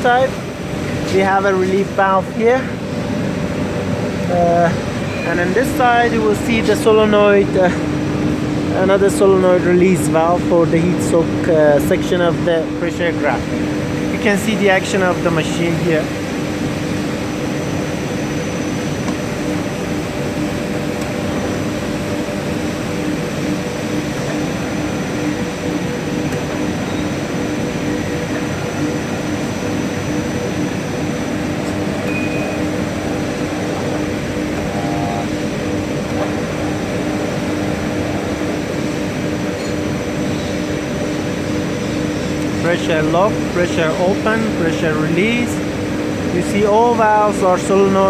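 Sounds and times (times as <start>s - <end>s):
hydraulic pump motor humming: 0.0s - 48.0s.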